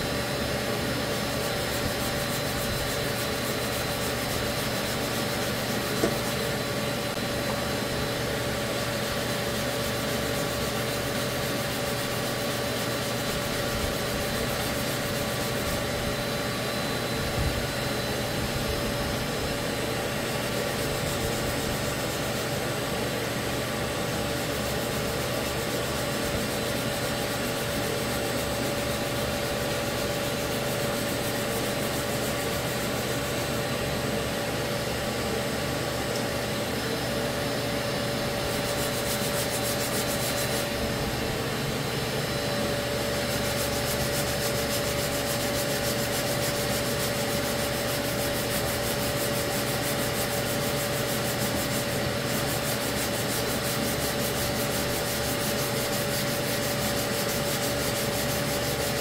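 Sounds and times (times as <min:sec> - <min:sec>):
sanding pad rasping: 0:00.0 - 0:59.0
vacuum humming: 0:00.0 - 0:59.0.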